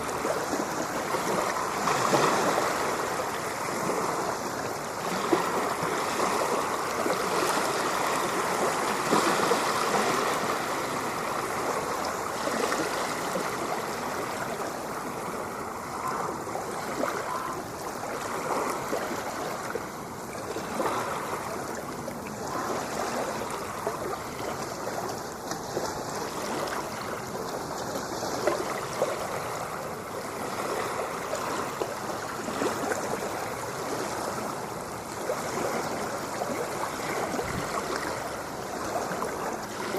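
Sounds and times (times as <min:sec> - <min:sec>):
ocean water lapping: 0:00.0 - 0:39.9.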